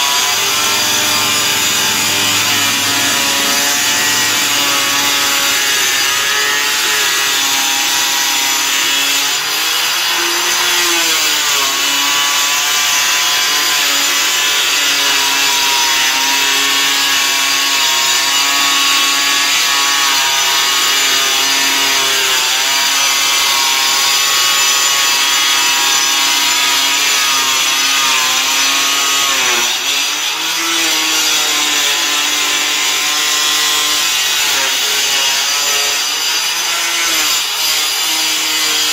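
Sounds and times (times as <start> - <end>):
angle grinder cutting board: 0.0 - 38.9.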